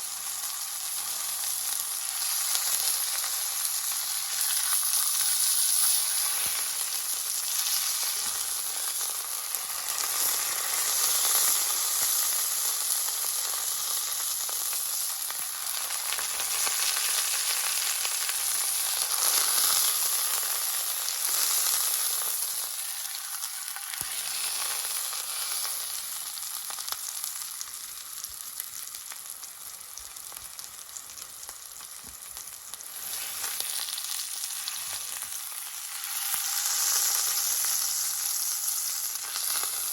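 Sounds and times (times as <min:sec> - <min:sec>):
beef sizzling in a skillet: 0:00.0 - 0:39.9.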